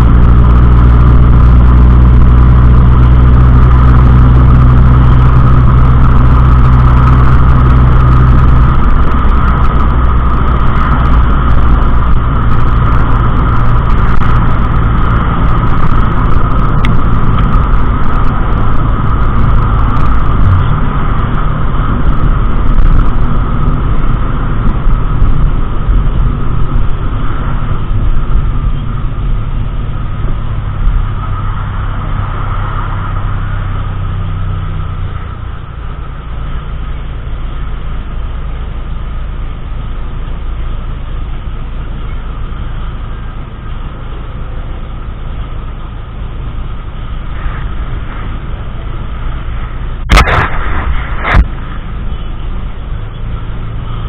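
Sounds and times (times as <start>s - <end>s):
car engine rumble: 0.0s - 54.0s
road noise: 0.0s - 54.0s.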